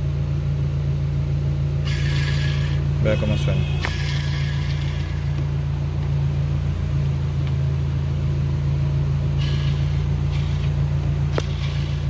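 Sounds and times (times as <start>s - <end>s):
gearbox bearing humming: 0.0s - 12.0s.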